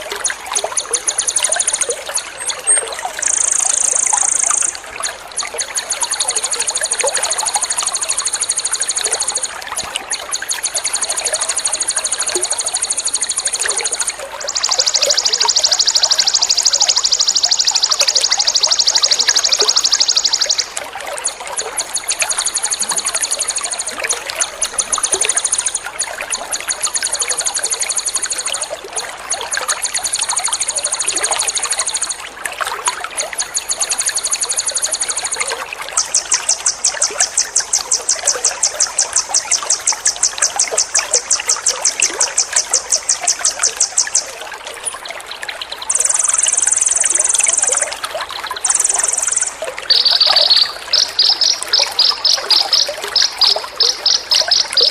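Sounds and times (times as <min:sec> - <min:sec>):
songbird high-pitched trills: 0:00.0 - 0:32.3, 0:33.2 - 0:45.1, 0:45.8 - 0:48.0, 0:48.6 - 0:54.9
trickling water: 0:00.0 - 0:54.9.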